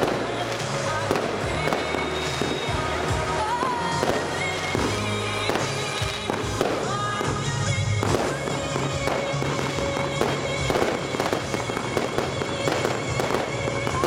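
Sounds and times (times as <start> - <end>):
fireworks bursting and crackling: 0.0 - 14.0
music from loudspeakers: 0.0 - 14.0.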